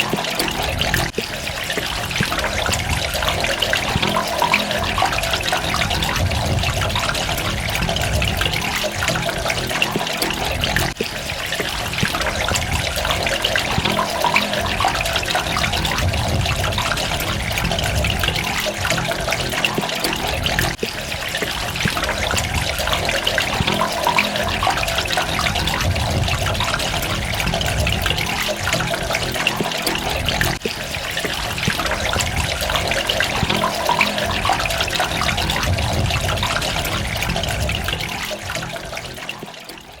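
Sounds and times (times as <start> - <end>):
water drips: 0.0 - 40.0
water running and splashing: 0.0 - 40.0.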